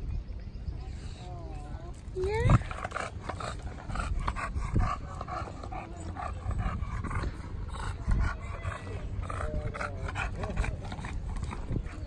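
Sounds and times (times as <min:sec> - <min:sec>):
dog panting: 0:02.3 - 0:12.0.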